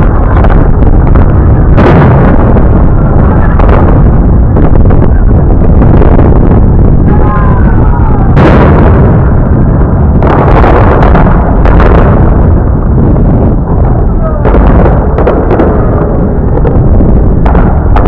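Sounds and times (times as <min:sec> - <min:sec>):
fireworks booming: 0:00.0 - 0:18.0
steady loud rumble: 0:00.0 - 0:18.0.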